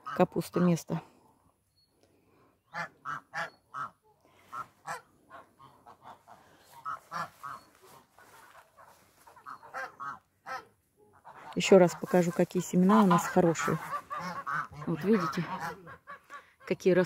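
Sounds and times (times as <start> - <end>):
geese honking: 2.7 - 16.7.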